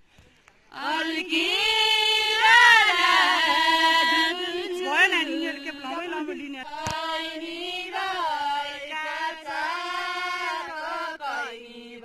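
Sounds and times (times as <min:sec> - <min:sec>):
women singing unaccompanied: 0:00.7 - 0:12.0.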